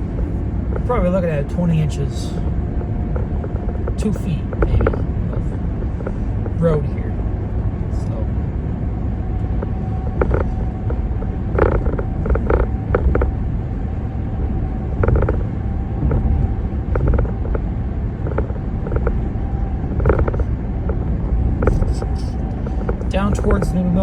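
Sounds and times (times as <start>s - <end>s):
road rumble inside vehicle: 0.0s - 24.0s.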